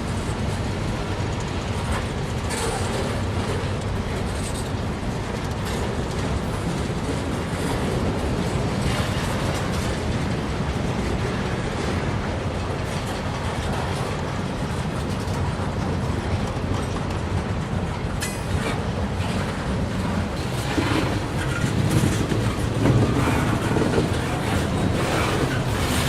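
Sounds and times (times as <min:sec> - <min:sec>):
freight train rumble: 0:00.0 - 0:26.0
train wheels clicking over rail joints: 0:00.0 - 0:26.0.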